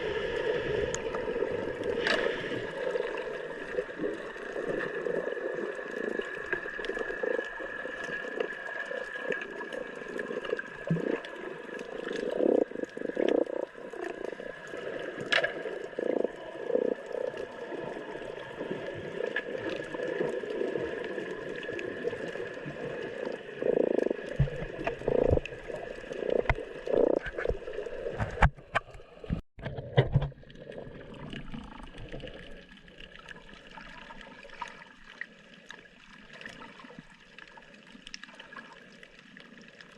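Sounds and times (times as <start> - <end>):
muffled water gurgling and sloshing: 0.0 - 39.9.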